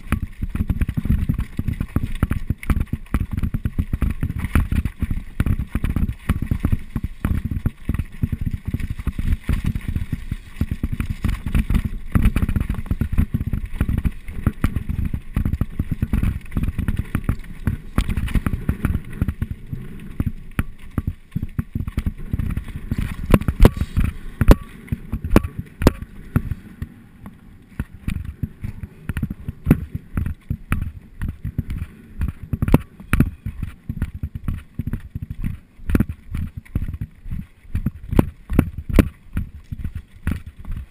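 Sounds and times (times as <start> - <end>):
bike rattling and knocking: 0.0 - 40.9
bike tyres rumbling over gravel: 0.0 - 40.9.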